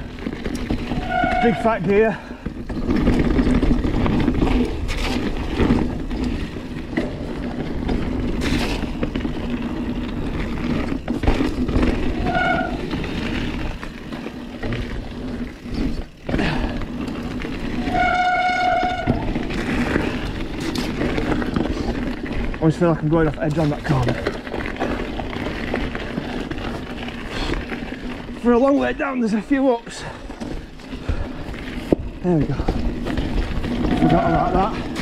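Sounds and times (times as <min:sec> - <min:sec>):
bike rattling: 0:00.0 - 0:35.0
bike tyre and trail noise: 0:00.0 - 0:35.0.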